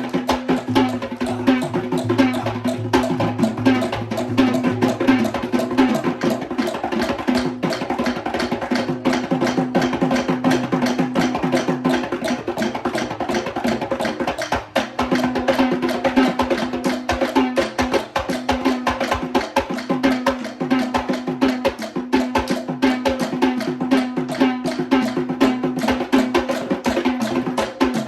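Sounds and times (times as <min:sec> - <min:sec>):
drum ensemble playing fast rhythm: 0:00.0 - 0:28.0.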